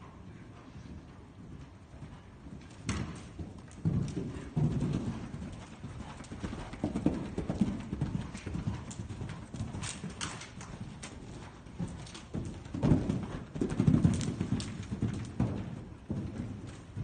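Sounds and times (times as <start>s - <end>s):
horse hoofbeats on soft footing: 0.6s - 17.0s.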